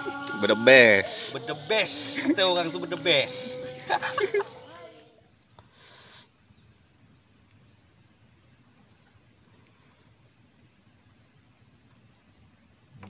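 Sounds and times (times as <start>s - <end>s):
faint background hiss: 0.0s - 13.0s
insects droning: 0.0s - 13.0s.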